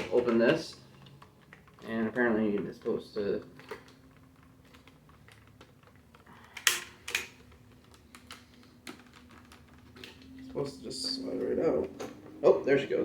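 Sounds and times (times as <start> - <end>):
plastic clicks and rattles: 0.0 - 12.2
sharp plastic clacks: 0.0 - 12.2.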